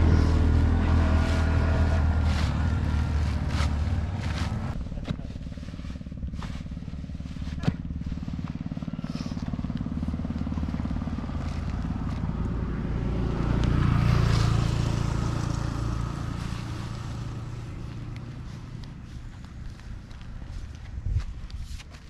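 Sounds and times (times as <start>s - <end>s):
vehicle engine passing by: 0.0s - 21.4s.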